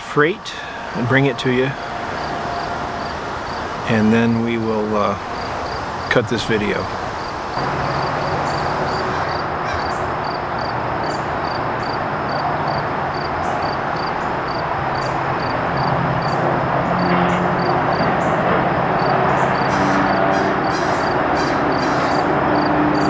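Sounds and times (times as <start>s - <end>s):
diesel locomotive engine hum: 0.0s - 23.0s
insects chirping: 0.0s - 23.0s.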